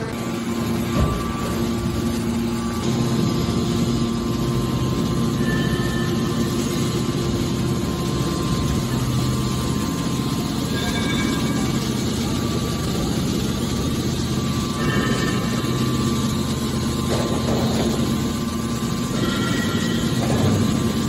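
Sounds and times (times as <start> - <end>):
hydraulic baler motor humming: 0.0 - 21.0.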